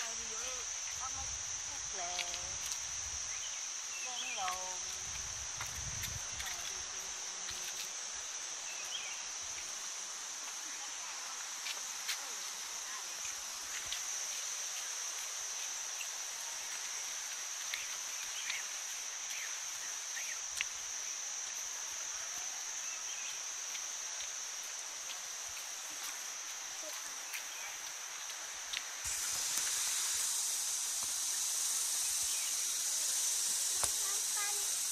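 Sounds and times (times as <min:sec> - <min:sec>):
insects droning: 0:00.0 - 0:34.9
light hiss: 0:00.0 - 0:34.9.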